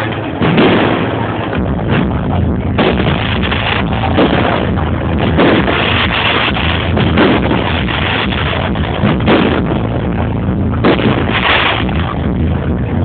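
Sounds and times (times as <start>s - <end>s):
fireworks bangs and crackle: 0.0s - 13.0s
music playing: 0.0s - 13.0s.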